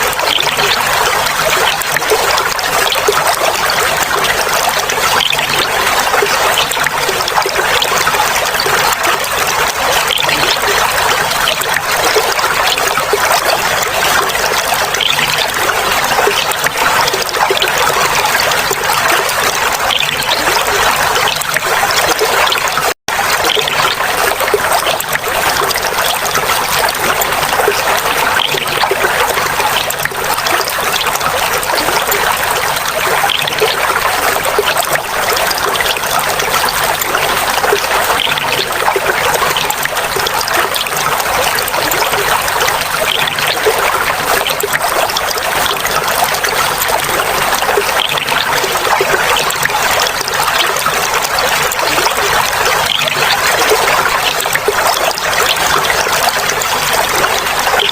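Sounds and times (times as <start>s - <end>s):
water flowing and trickling: 0.0s - 57.9s.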